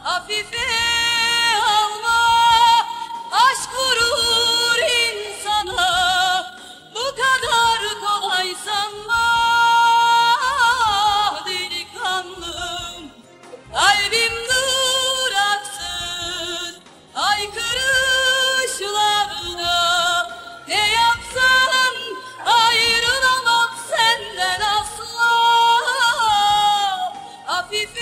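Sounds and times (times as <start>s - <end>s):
woman singing with vibrato: 0.0s - 28.0s.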